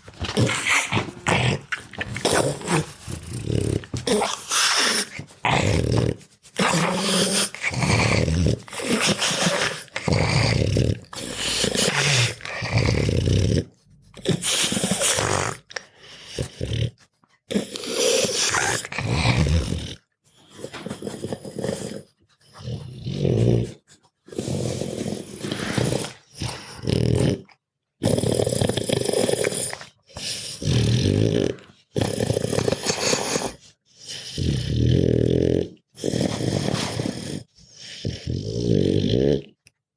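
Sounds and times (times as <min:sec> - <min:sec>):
dog snoring loudly: 0:00.2 - 0:39.5.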